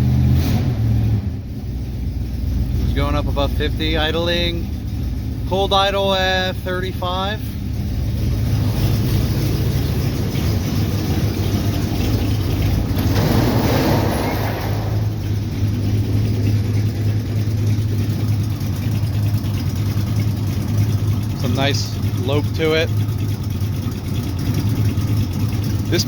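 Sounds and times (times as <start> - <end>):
car engine idling with a lope: 0.0 - 26.0.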